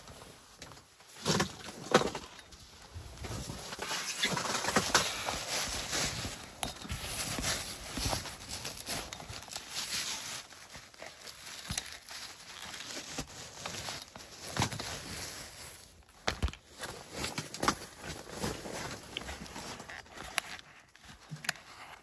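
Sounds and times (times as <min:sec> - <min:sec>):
fabric rustling on microphone: 0:02.5 - 0:20.9.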